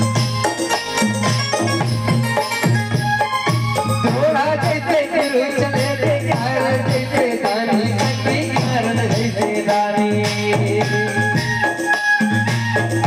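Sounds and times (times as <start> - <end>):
electronic keyboard melody: 0.0 - 13.0
hand drum rhythm: 0.0 - 13.0
jingling percussion: 0.0 - 13.0.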